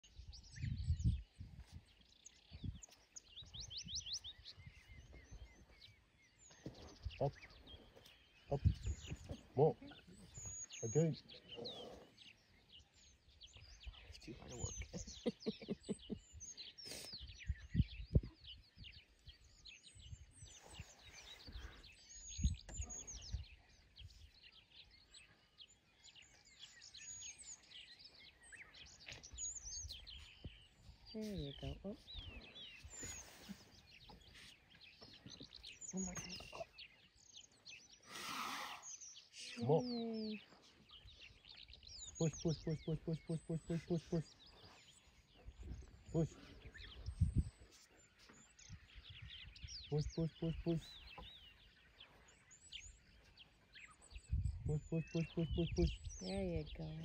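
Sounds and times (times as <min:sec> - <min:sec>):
birds calling and chirping: 0:00.0 - 0:57.0.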